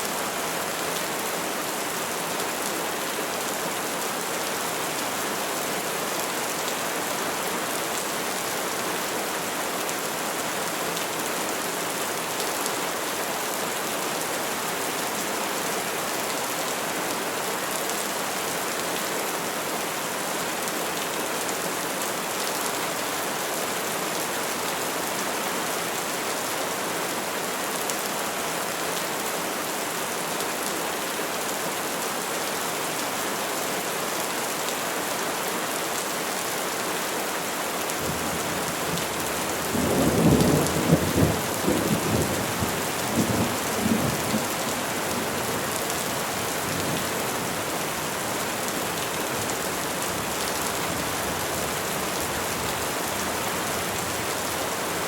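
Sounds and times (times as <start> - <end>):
rain falling on trees: 0.0 - 55.0.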